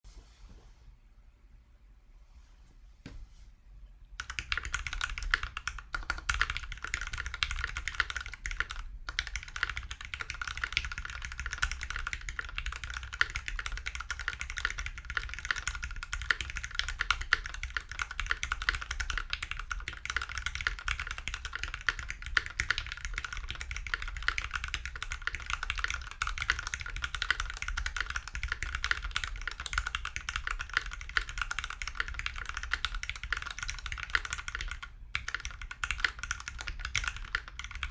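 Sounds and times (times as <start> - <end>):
mechanical keyboard typing: 4.2 - 37.9.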